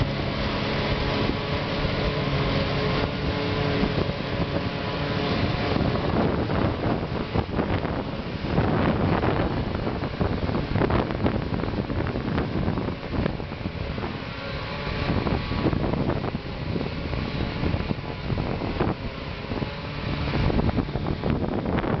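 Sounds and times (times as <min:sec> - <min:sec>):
tractor diesel engine drone: 0:00.0 - 0:22.0
wind buffeting microphone: 0:00.0 - 0:22.0.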